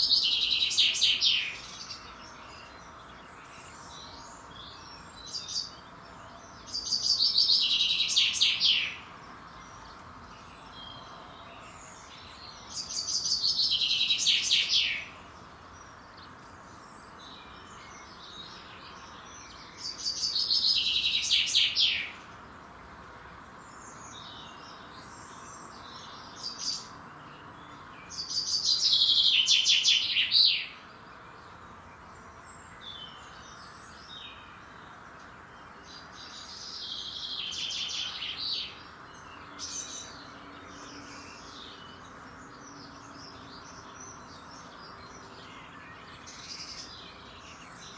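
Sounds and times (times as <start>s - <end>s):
faint calls of other birds: 0.0s - 47.9s.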